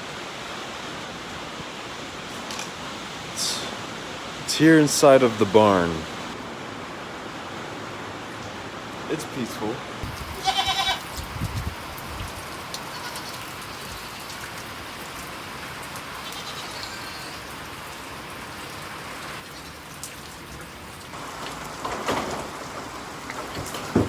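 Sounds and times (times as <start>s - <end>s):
heavy rain on metal roof: 0.0s - 24.0s.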